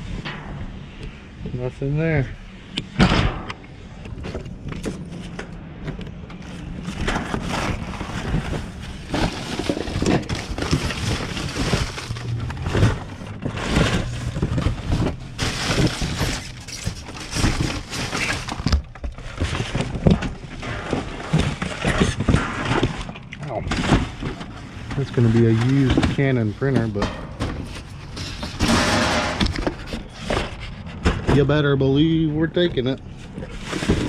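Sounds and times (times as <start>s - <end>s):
trash rustling and clattering: 2.9s - 34.0s.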